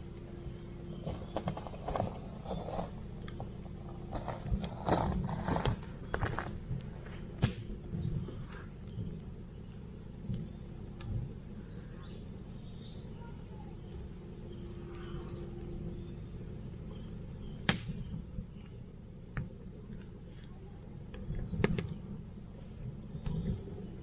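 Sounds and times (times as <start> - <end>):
campfire burning: 0.0 - 24.0.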